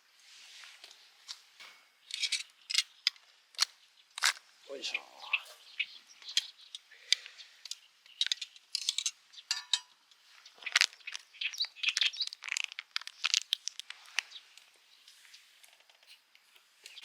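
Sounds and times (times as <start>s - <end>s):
food crackling over a campfire: 0.0s - 17.0s.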